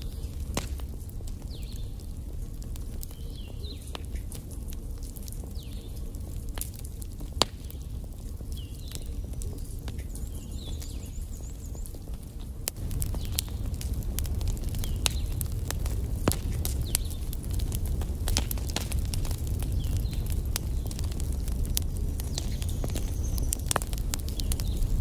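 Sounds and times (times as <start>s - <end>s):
fire crackling and popping: 0.0s - 25.0s
fire rumbling in fireplace: 0.0s - 25.0s.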